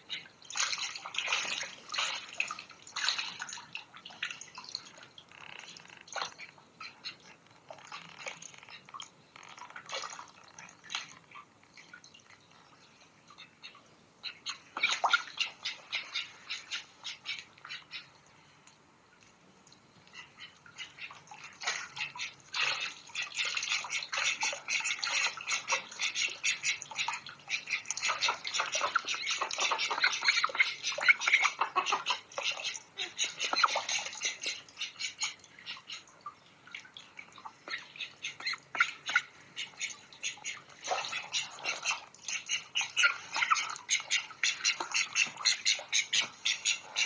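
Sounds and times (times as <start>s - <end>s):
duck bills slurping and clicking: 0.0s - 12.5s, 14.2s - 47.0s
ducks splashing in water: 0.0s - 18.7s, 19.6s - 47.0s.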